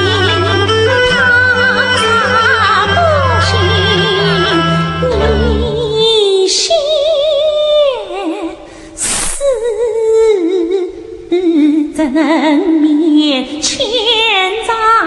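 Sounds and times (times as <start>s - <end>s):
woman singing opera: 0.0s - 15.0s.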